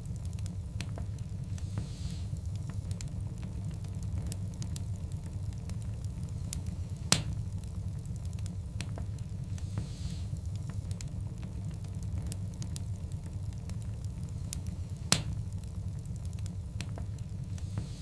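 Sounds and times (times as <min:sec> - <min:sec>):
fire crackling: 0:00.0 - 0:18.0
rumble of flames: 0:00.0 - 0:18.0.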